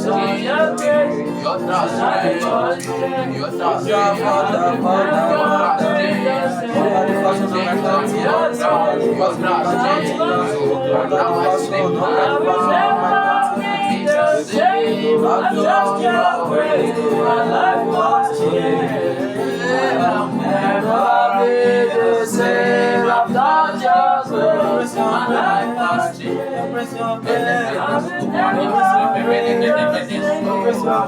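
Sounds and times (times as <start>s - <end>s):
person singing: 0.0s - 31.0s.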